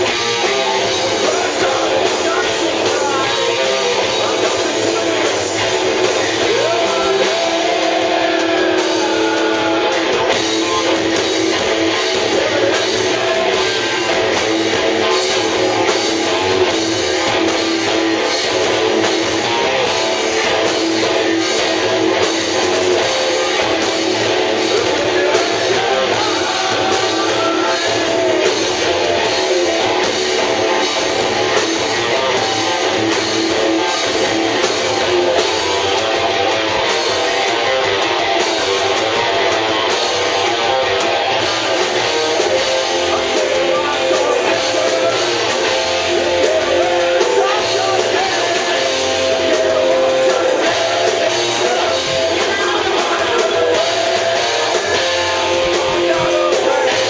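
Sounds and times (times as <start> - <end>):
live hard rock band: 0.0 - 57.0.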